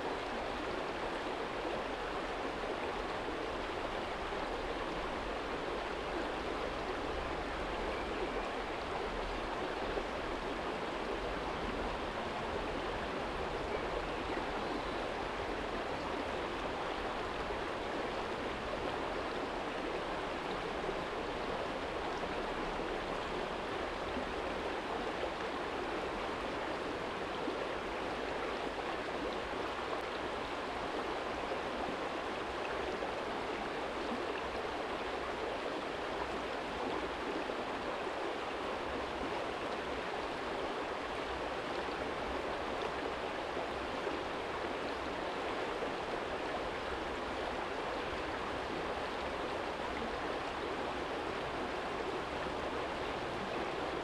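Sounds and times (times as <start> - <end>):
stream flowing over stones: 0.0 - 54.0.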